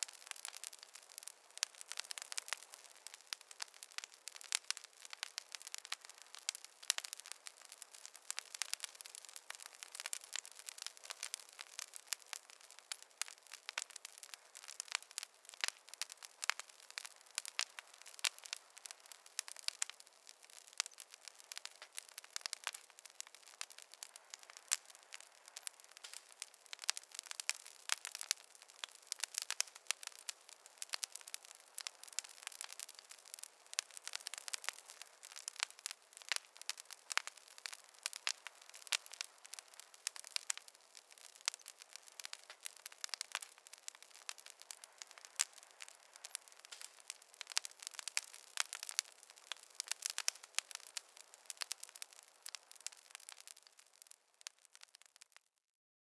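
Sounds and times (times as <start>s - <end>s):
faint hiss: 0.0s - 54.4s
campfire crackling: 0.0s - 55.5s.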